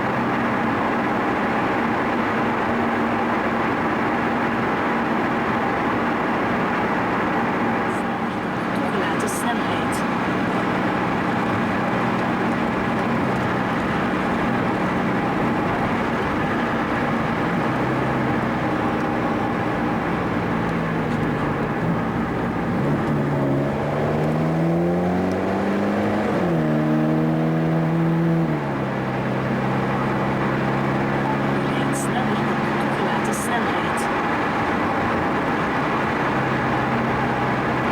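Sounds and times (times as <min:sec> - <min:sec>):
car engine accelerating: 0:00.0 - 0:37.9
road noise: 0:00.0 - 0:37.9.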